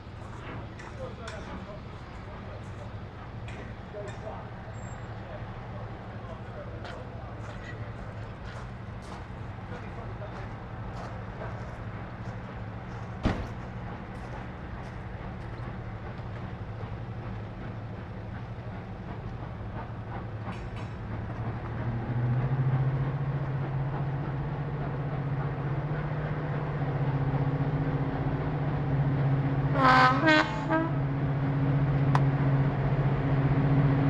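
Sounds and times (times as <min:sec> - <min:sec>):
diesel locomotive engine drone: 0:00.0 - 0:34.0.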